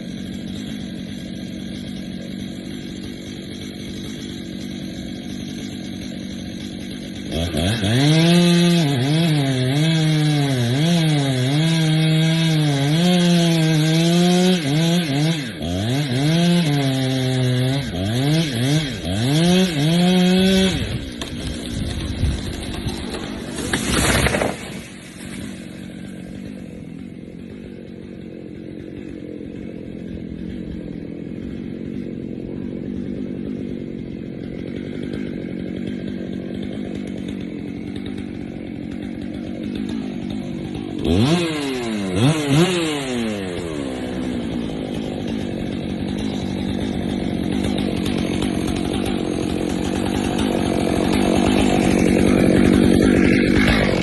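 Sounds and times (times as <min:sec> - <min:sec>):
chainsaw engine running and revving: 0:00.0 - 0:54.0.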